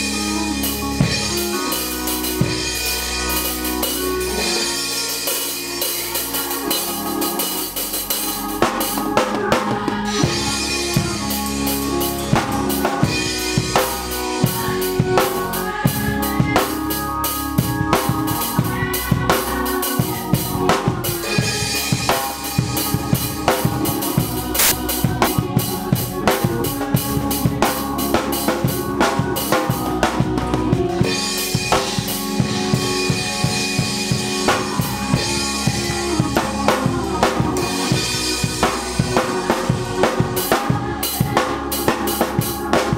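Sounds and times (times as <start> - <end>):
drum kit groove: 0.0 - 42.9.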